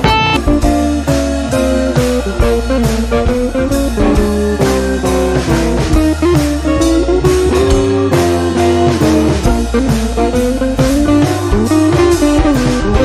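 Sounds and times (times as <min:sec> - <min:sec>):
blues-rock music with guitar and drums: 0:00.0 - 0:13.0.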